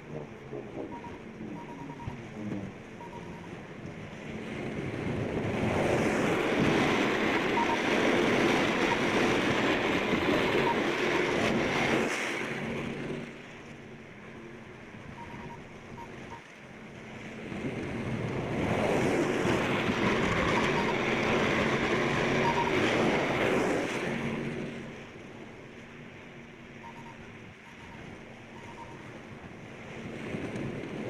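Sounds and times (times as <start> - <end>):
engine running: 0.0 - 30.8.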